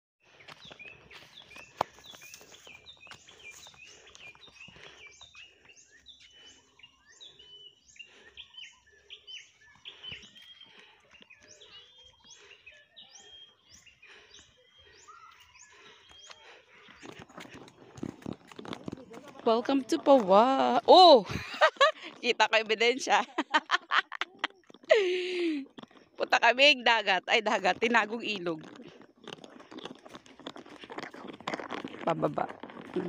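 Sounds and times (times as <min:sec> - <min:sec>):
birds chirping: 0:00.2 - 0:33.0.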